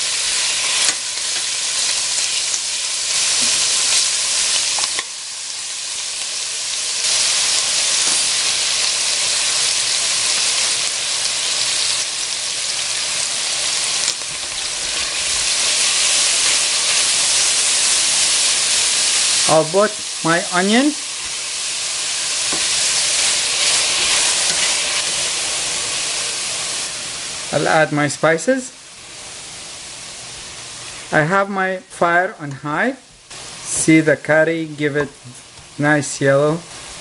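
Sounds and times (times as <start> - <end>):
chicken sizzling in hot oil: 0.0 - 31.7.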